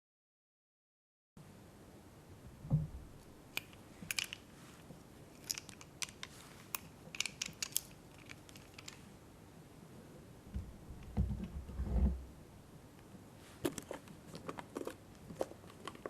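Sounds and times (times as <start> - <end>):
faint steady hiss: 1.4 - 16.0.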